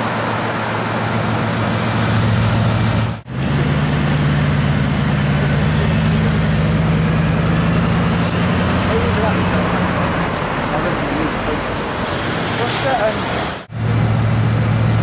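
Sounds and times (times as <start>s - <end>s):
car engine rolling by: 0.0s - 15.0s
street traffic: 0.0s - 15.0s.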